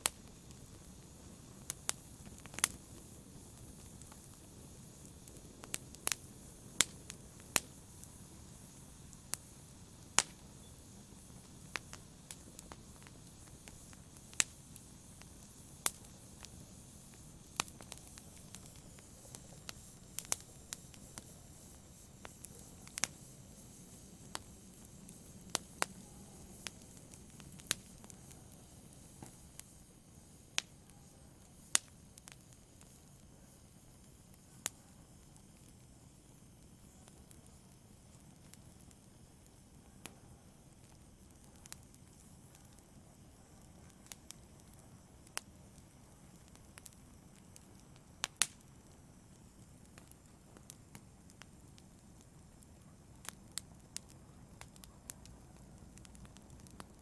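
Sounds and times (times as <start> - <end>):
fire crackling in fireplace: 0.0 - 57.0
sharp pops from fire: 0.0 - 57.0.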